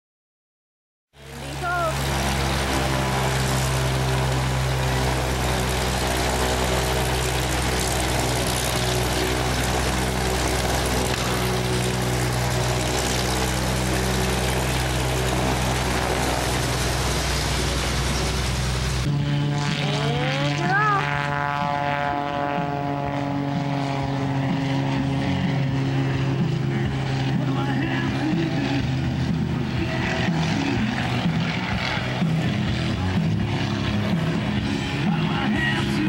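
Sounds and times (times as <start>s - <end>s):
propeller plane engine idling: 1.2s - 36.0s.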